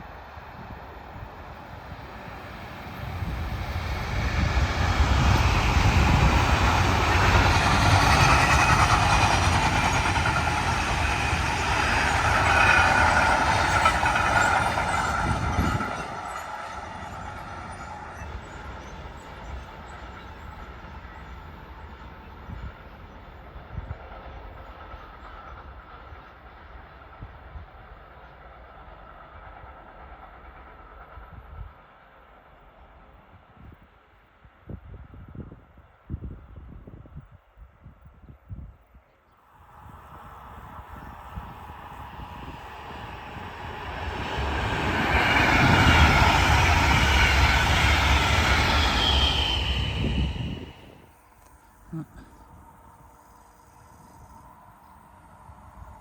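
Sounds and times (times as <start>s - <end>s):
train passing: 0.0s - 35.2s, 39.4s - 56.0s.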